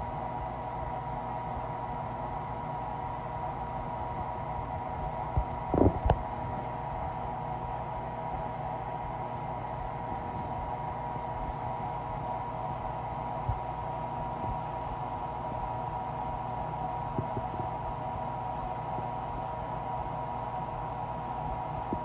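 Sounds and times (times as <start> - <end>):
steady hum and hiss: 0.0 - 22.0.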